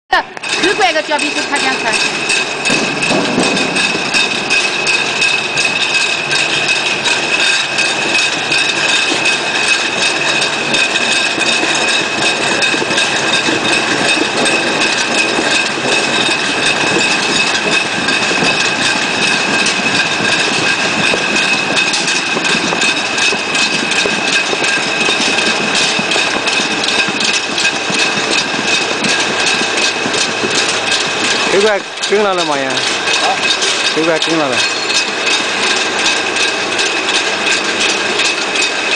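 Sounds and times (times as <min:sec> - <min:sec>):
high machine whine: 0:00.1 - 0:38.9
machine rollers rattling: 0:00.1 - 0:38.9.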